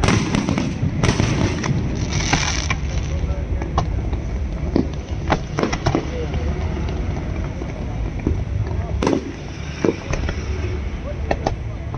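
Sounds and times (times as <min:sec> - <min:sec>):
fireworks bangs: 0:00.0 - 0:11.7
firecracker crackling: 0:00.0 - 0:11.9.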